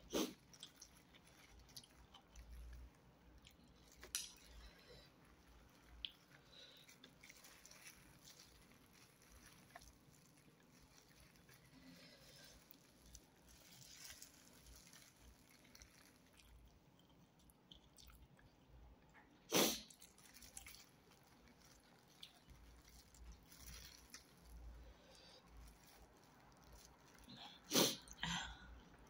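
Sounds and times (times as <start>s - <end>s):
plastic glove rustling: 0.0s - 17.0s, 19.6s - 28.1s
faint chewing: 0.0s - 29.0s.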